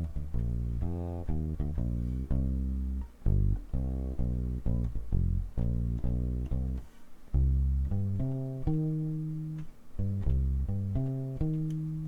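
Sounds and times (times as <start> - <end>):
muted fretless bass plucked notes: 0.0 - 12.0.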